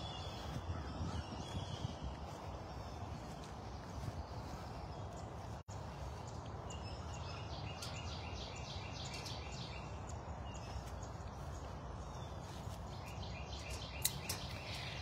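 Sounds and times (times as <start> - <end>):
small bird singing: 0.0 - 15.0.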